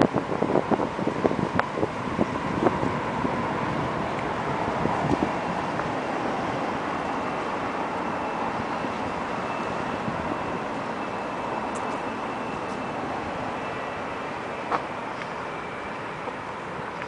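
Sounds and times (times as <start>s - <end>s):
faint steady whine: 0.0s - 17.0s
vehicle running noise: 0.0s - 17.0s.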